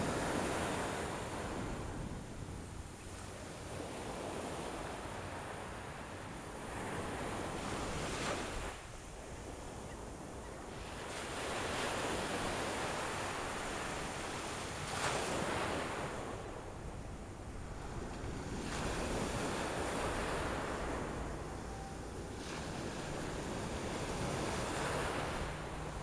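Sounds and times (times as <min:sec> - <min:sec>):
surf washing up a beach: 0:00.0 - 0:26.0
wind buffeting microphone: 0:00.0 - 0:26.0.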